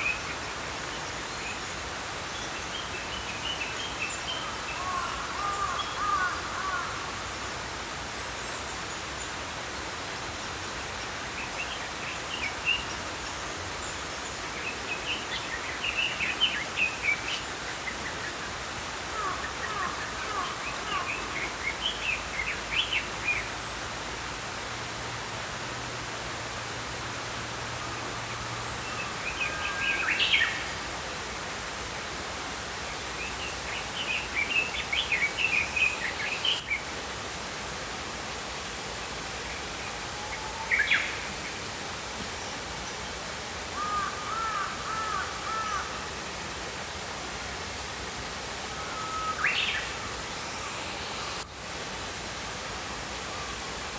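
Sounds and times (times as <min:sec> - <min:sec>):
stream flowing: 0:00.0 - 0:53.9.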